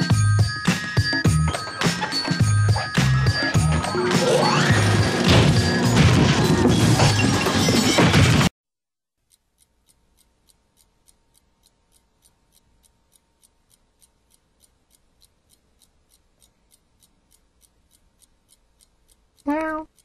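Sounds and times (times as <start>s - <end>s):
clock ticking: 0.0s - 6.7s, 9.2s - 20.0s.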